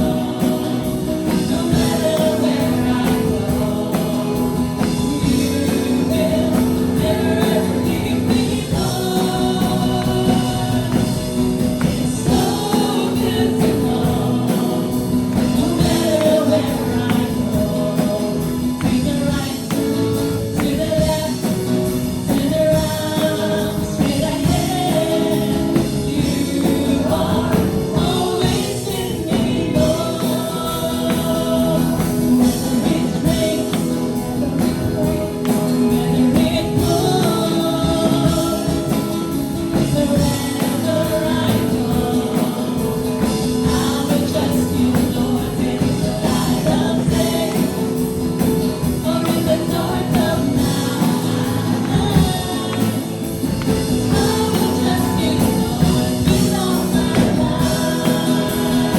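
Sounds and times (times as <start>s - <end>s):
group of voices singing: 0.0s - 58.9s
worship band playing: 0.0s - 58.9s.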